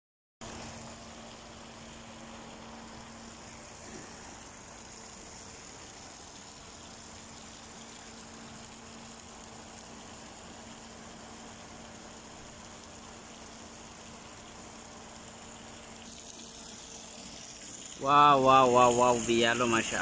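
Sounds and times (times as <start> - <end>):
fountain water splashing into pool: 0.4 - 20.0.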